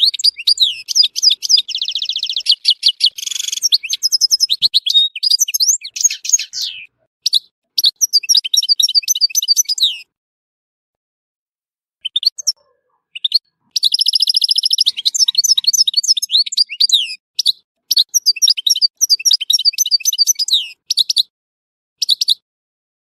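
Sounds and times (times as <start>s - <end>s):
goldfinch singing: 0.0s - 10.1s, 12.0s - 21.3s.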